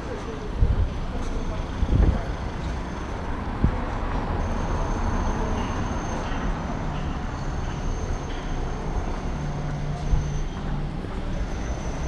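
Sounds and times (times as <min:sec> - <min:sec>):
passing traffic: 0:00.0 - 0:12.0.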